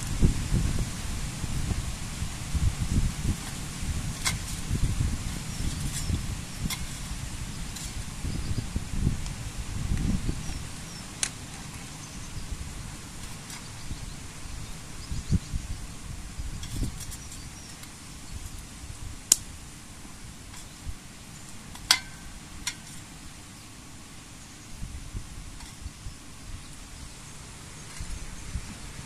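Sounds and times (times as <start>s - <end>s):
wind buffeting microphone: 0.0s - 23.4s, 24.5s - 29.0s.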